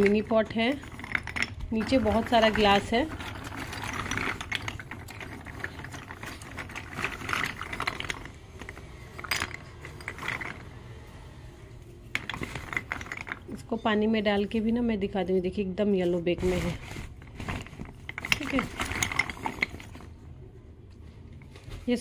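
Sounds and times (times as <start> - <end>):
clay pots clinking and rattling: 0.0 - 11.2, 11.8 - 22.0.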